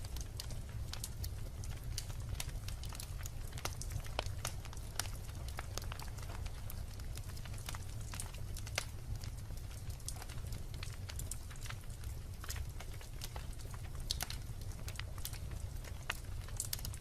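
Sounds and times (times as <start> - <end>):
wood logs crackling in fireplace: 0.0 - 17.0.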